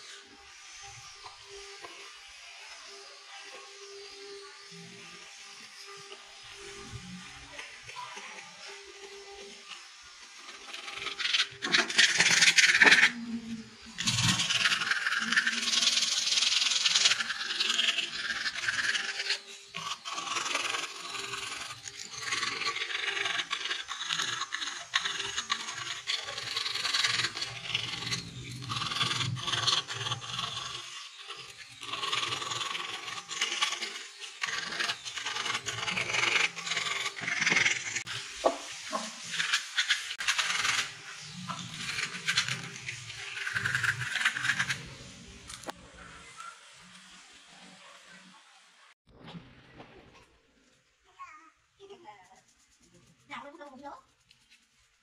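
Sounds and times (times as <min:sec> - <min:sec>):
sandpaper rasping on wood: 0:00.0 - 0:45.0.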